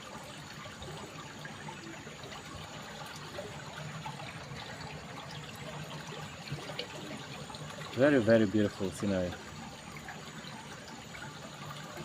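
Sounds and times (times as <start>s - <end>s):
stream water flowing in tunnel: 0.0s - 12.0s.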